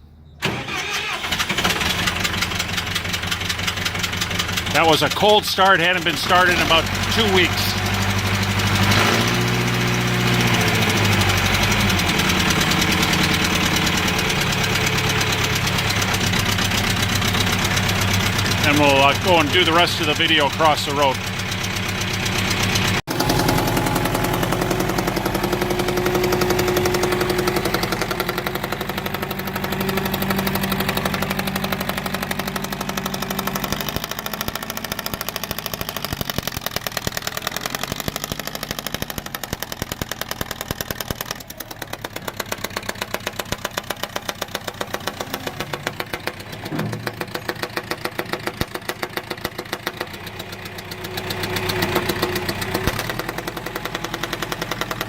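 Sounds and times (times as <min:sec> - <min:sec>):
diesel engine running: 0:00.1 - 0:55.0.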